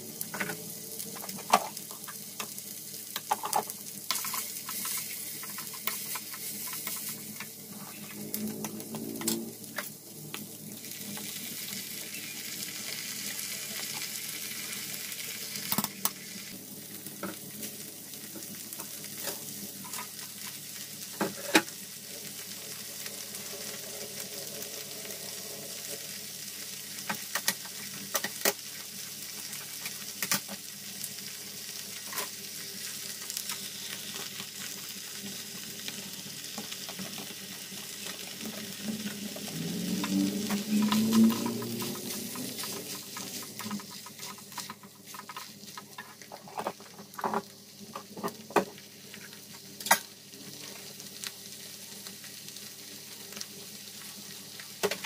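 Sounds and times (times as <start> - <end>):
meat and onions sizzling: 0.0 - 55.0.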